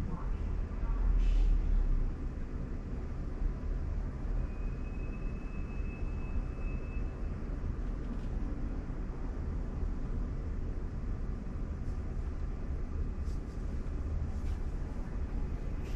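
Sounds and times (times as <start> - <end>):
road and tyre rumble: 0.0 - 15.9.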